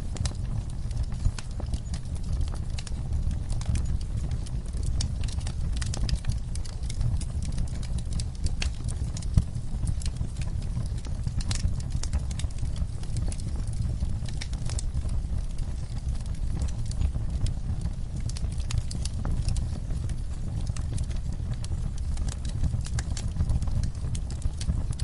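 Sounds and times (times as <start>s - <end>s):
fire rumbling in fireplace: 0.0s - 25.0s
wood fire crackling and popping: 0.0s - 25.0s.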